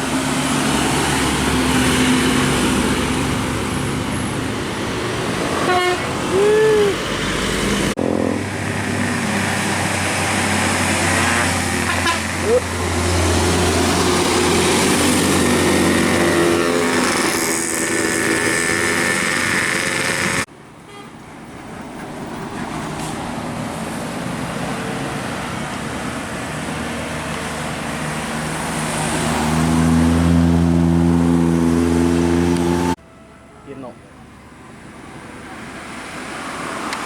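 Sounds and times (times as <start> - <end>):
buses passing with loud engines: 0.0 - 37.0.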